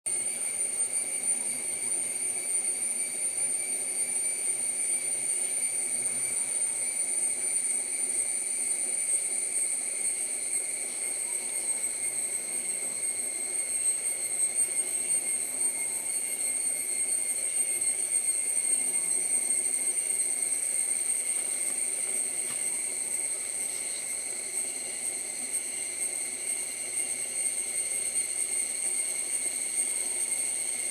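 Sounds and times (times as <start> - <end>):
insect chorus drone: 0.1 - 30.9.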